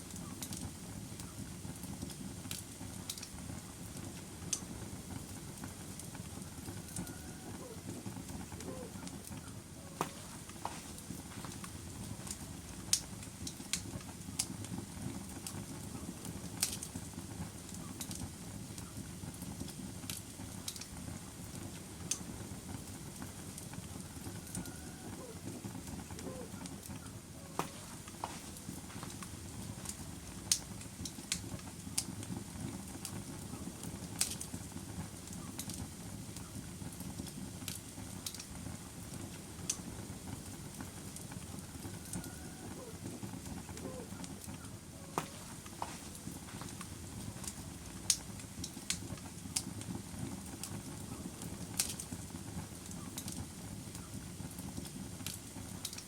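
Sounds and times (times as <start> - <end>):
fire crackles and pops: 0.0 - 56.0
fire flames rustling: 0.0 - 56.0.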